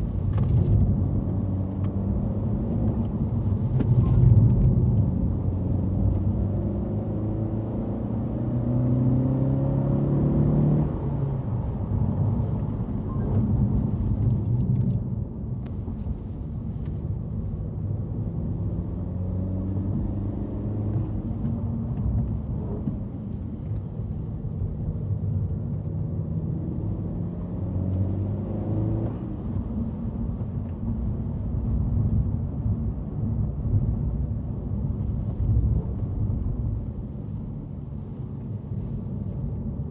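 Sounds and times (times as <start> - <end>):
car engine accelerating through gears: 0.2 - 15.2, 17.9 - 36.8.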